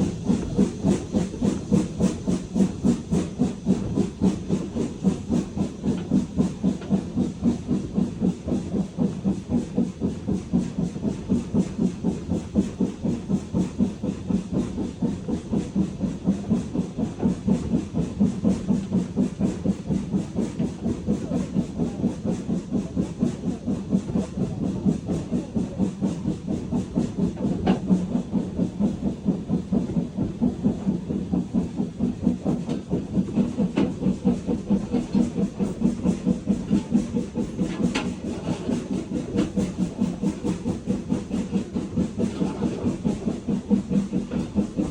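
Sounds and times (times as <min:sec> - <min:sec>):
steam locomotive chuffing: 0:00.0 - 0:44.9.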